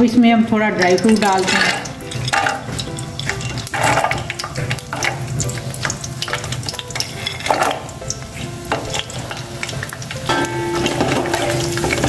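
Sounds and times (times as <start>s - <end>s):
nuts frying with a hiss: 0.8s - 12.0s.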